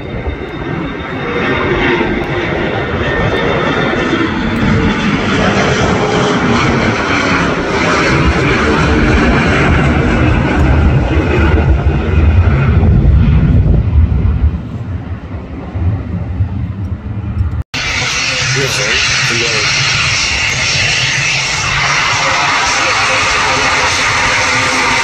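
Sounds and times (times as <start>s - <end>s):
jet engines rough rumble: 0.0s - 25.0s.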